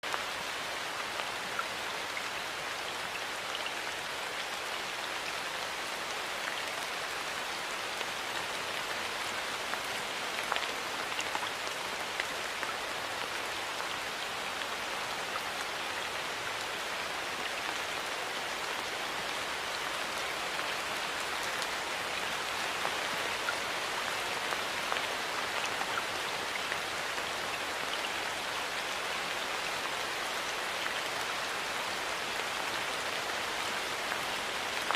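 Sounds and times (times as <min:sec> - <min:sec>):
raindrops pattering: 0:00.0 - 0:34.9
steady rainfall: 0:00.0 - 0:34.9.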